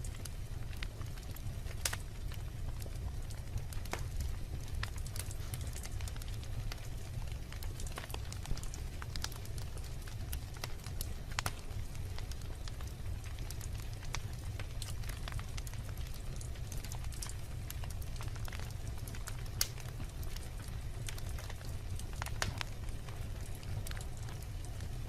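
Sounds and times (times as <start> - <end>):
logs crackling in fireplace: 0.0 - 25.0.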